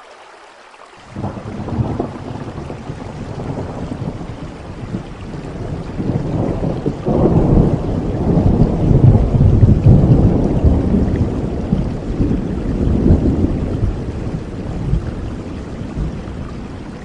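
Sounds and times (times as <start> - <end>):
steady rain: 0.0 - 17.0
thunder rumbling: 1.0 - 17.0.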